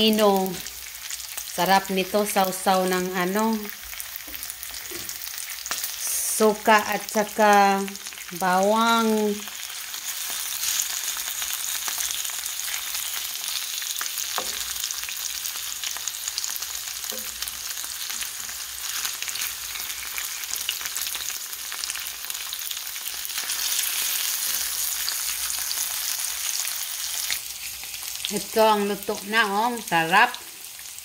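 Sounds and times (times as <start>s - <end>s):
meat sizzling in oil: 0.0s - 31.0s.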